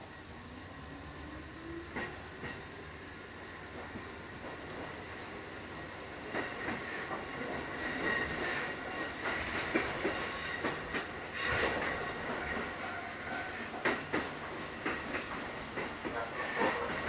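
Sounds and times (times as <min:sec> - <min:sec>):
train car rumble: 0:00.0 - 0:17.0.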